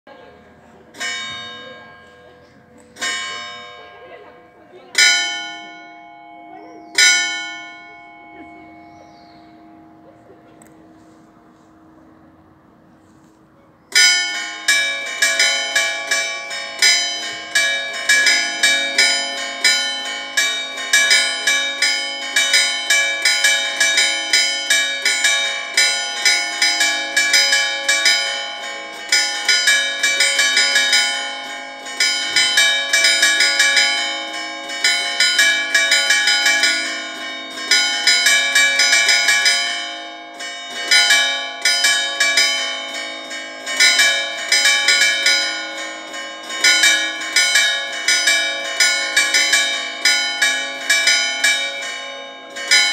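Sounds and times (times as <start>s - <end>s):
church bells swinging: 0.1s - 52.9s.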